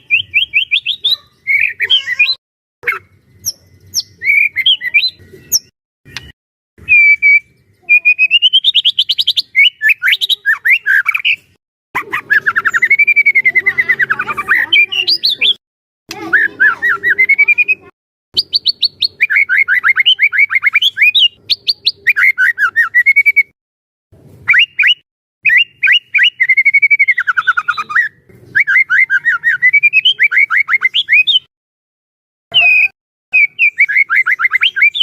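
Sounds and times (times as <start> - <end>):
songbird singing varied phrases: 0.0 - 23.5, 24.4 - 31.5, 32.5 - 35.0.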